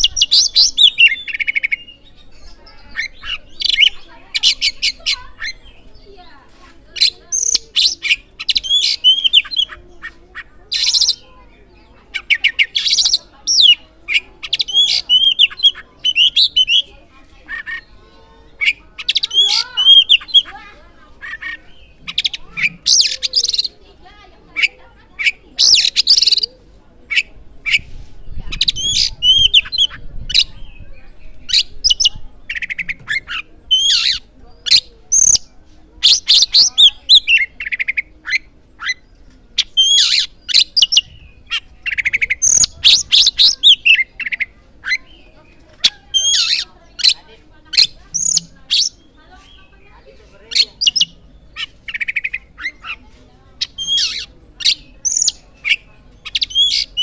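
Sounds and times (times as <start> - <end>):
songbird chattering and whistling: 0.0 - 57.0.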